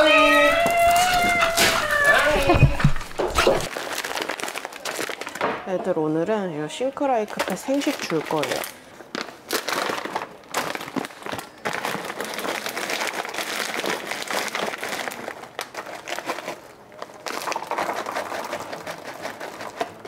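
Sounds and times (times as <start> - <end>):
plastic pouch crinkling: 0.0 - 5.4, 7.3 - 20.0
frozen cubes clattering into bowls: 0.0 - 6.1, 6.8 - 20.0.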